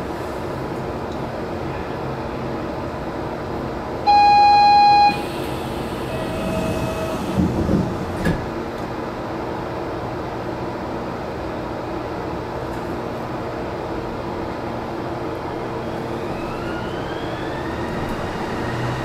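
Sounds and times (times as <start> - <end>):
train car hum: 0.0 - 19.0.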